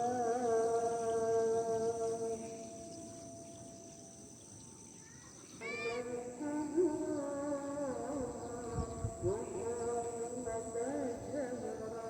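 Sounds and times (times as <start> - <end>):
high insect buzz: 0.0 - 12.0.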